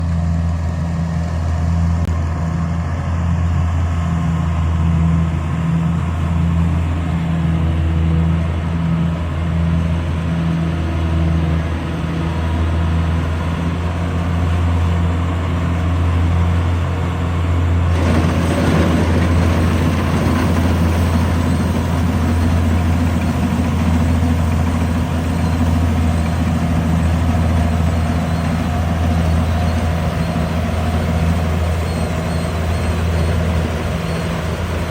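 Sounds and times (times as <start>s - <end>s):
diesel engine droning: 0.0s - 34.9s
rushing mechanical noise: 3.2s - 34.9s.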